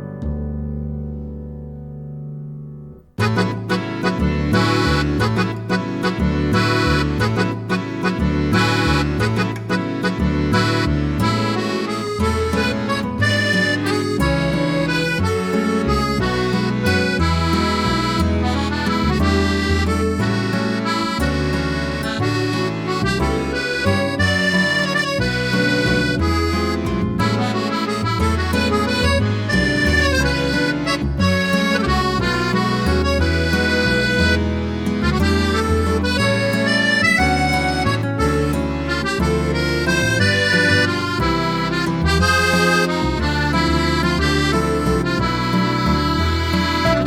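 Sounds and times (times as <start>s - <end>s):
accordion tune over bass line: 3.2s - 47.0s.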